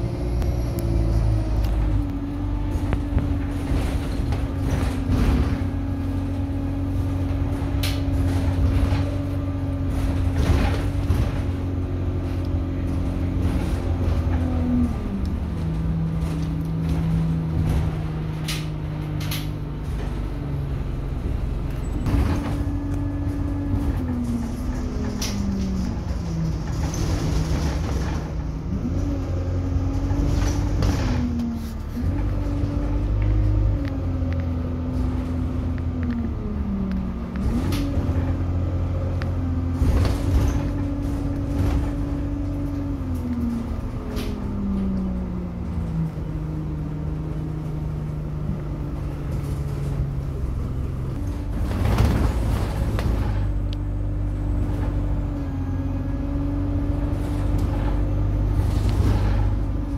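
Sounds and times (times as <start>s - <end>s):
bus engine rumble: 0.0s - 59.9s
drivetrain whine: 0.0s - 59.9s.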